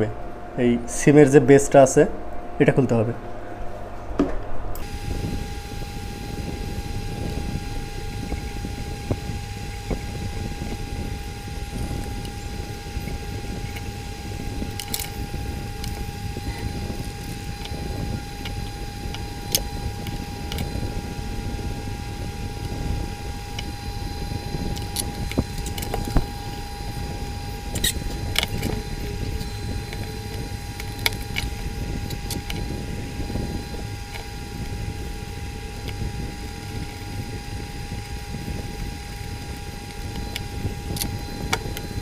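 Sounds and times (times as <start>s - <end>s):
hot-air station blowing: 0.0s - 42.0s.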